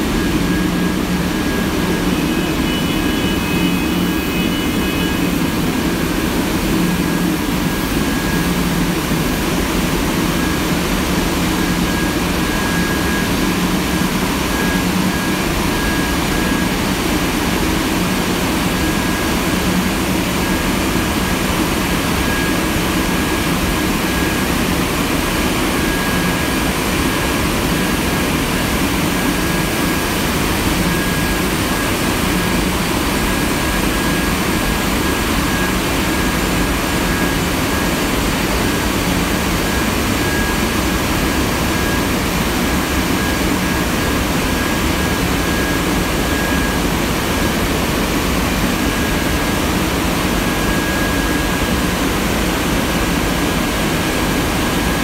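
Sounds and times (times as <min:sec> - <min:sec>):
thin high whine: 0:00.0 - 0:55.0.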